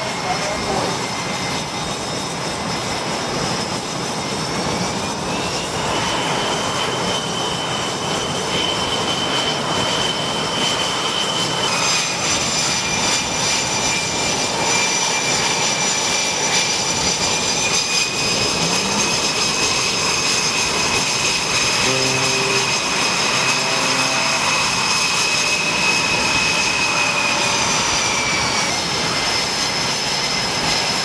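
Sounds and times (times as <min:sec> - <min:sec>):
high engine whine: 0:00.0 - 0:31.0
jet engines running at high power: 0:00.0 - 0:31.0.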